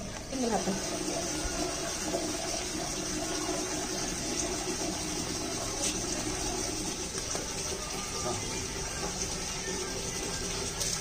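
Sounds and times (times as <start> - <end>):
water running: 0.0 - 11.0.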